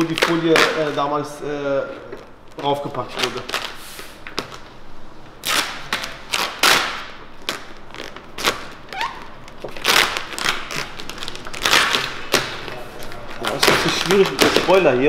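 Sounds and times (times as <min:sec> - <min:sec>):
vinyl film crinkling: 0:00.0 - 0:01.1, 0:01.9 - 0:15.0.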